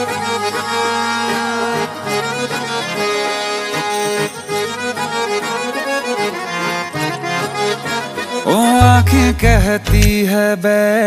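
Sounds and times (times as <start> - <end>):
instrumental song melody: 0.0 - 11.0.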